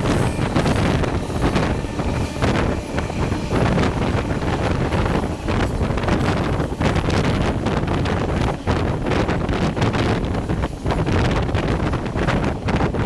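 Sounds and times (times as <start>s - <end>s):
passenger train running: 0.0s - 13.0s
wind buffeting microphone: 0.0s - 13.0s.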